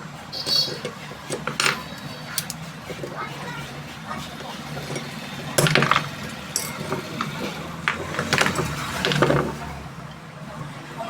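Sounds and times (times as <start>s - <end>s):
low background hum: 0.0s - 10.2s
metal parts knocking and clinking: 0.4s - 9.7s.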